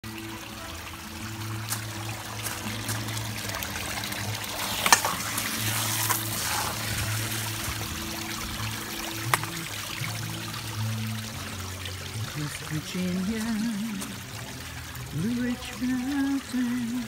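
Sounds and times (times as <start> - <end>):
water splashing into pond: 0.0 - 17.0.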